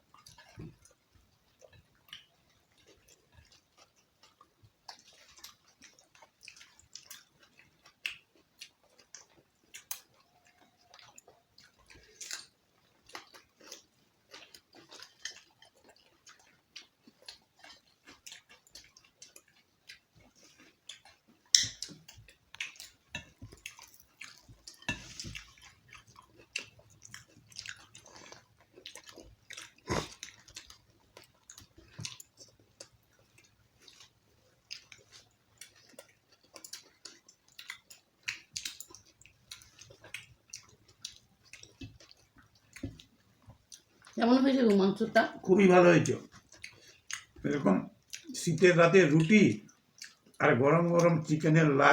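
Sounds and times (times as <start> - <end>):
people chewing food: 0.0 - 51.9.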